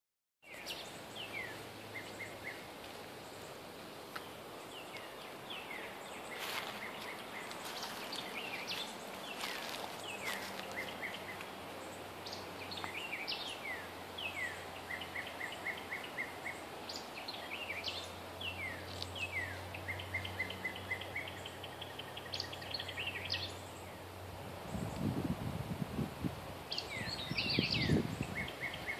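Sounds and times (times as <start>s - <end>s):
songbird singing: 0.4s - 28.9s.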